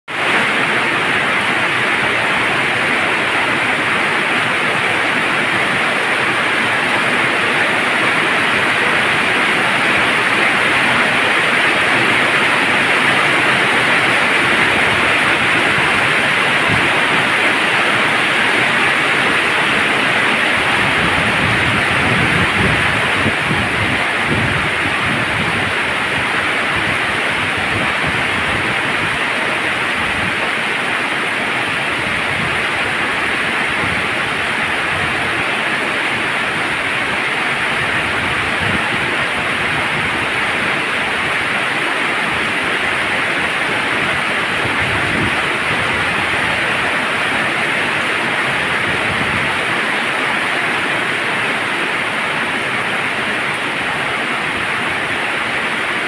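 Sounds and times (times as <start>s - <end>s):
heavy rain on road and grass: 0.0s - 56.0s.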